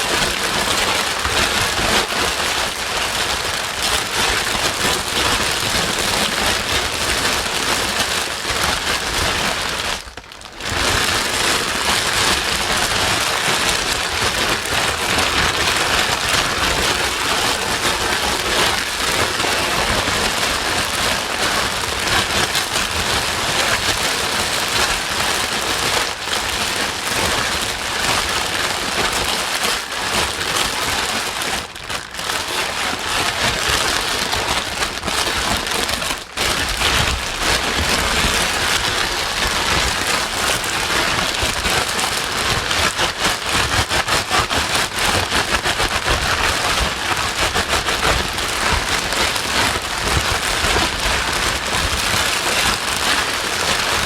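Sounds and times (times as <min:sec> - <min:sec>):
dense rain noise: 0:00.0 - 0:54.0.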